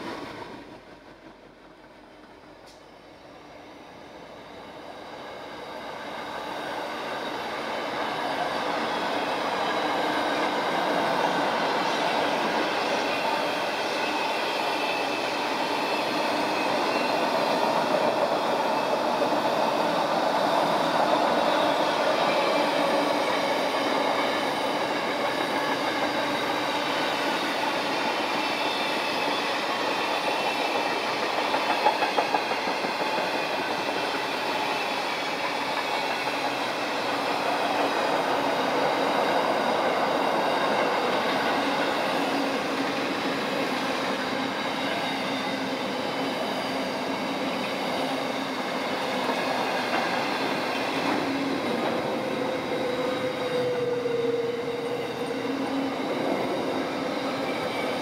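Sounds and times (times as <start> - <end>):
train wheels rushing on rails: 0.0 - 58.0
train wheels clacking: 5.8 - 58.0.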